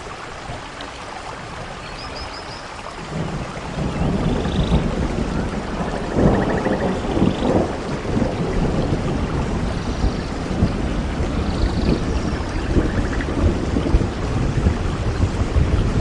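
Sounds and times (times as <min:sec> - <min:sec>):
heavy rain: 0:00.0 - 0:16.0
thunder rumbling: 0:03.0 - 0:16.0.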